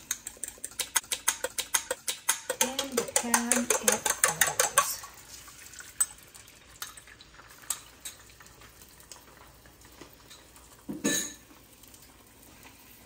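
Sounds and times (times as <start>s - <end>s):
eggs sizzling in a pan: 0.0s - 13.0s.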